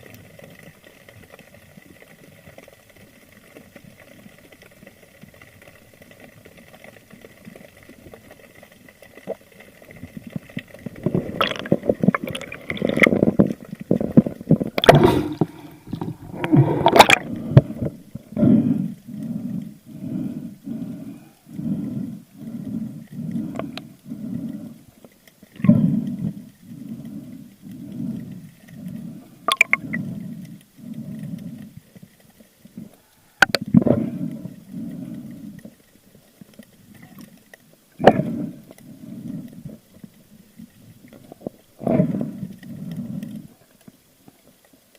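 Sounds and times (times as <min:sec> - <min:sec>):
water gurgling and sloshing: 0:00.0 - 0:44.9.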